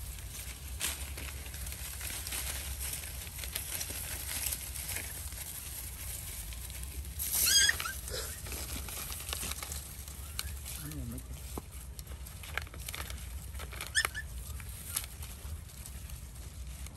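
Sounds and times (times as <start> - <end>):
dogs crunching food: 0.0 - 16.9.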